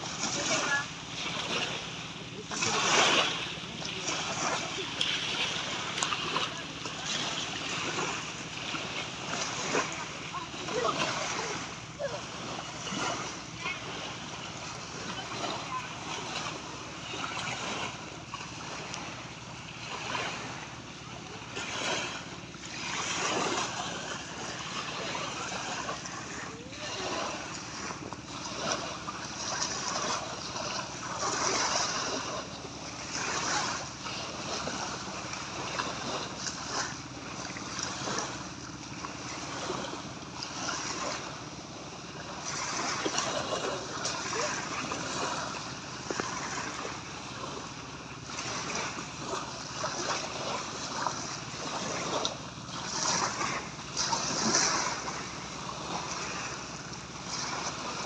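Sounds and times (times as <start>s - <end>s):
waves breaking on sandy shore: 0.0s - 58.0s.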